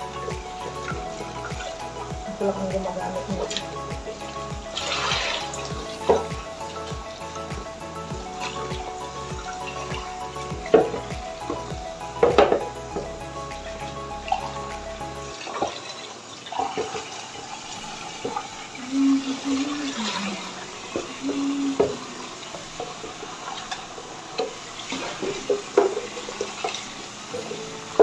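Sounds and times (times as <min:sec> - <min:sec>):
background music: 0:00.0 - 0:28.0
water pouring and splashing: 0:00.0 - 0:28.0.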